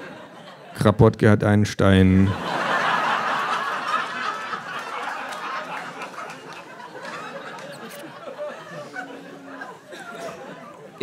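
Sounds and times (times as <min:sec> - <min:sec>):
audience laughing: 0:00.0 - 0:00.8, 0:02.2 - 0:11.0.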